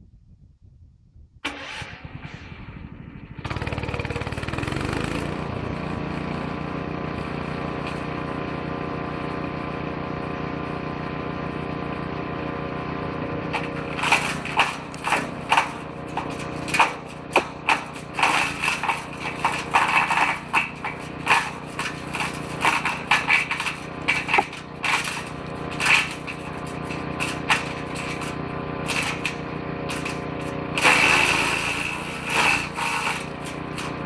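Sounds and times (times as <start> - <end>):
woodchipper engine running: 3.3 - 34.0
branches cracking in shredder: 3.4 - 34.0.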